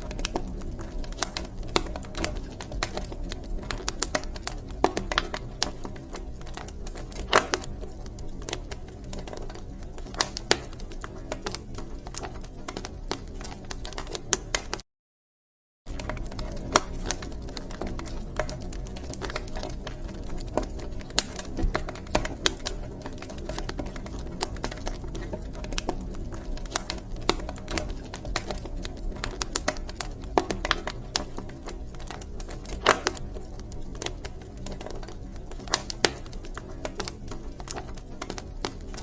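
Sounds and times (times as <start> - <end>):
wood fire crackling: 0.0 - 14.8, 15.9 - 39.0.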